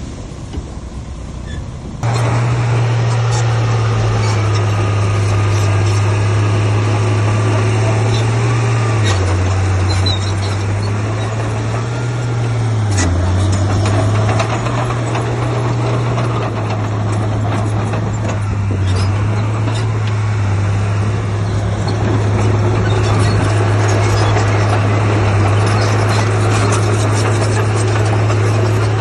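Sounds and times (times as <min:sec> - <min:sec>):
heavy diesel machinery running: 0:00.0 - 0:29.0
clattering noise: 0:03.0 - 0:29.0.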